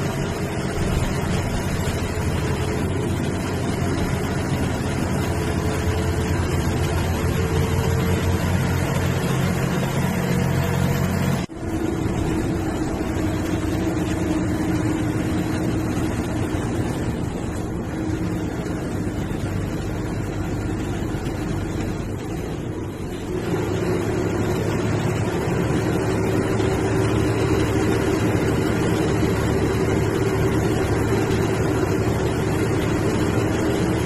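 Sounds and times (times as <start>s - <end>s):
bus engine running: 0.0s - 34.0s
road noise: 0.0s - 34.0s.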